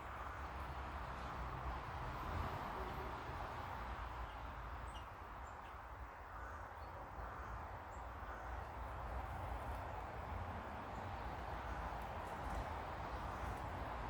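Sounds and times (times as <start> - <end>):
outdoor background hiss and rumble: 0.0 - 14.0.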